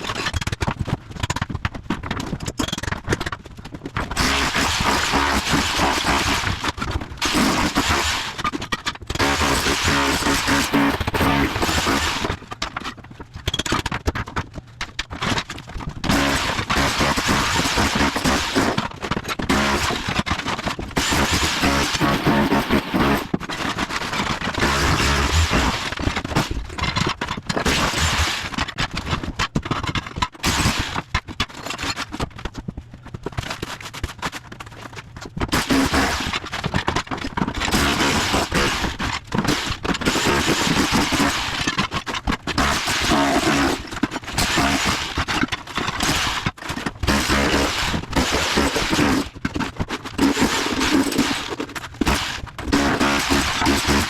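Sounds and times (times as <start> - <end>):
rotary hammer chipping tile: 0.0 - 54.0.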